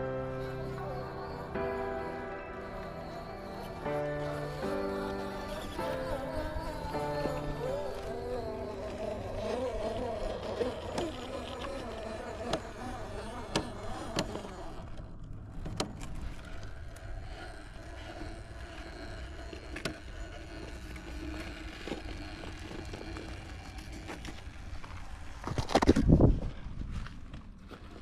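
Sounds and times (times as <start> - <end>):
toy car tyres rumbling on ground: 0.0 - 28.0.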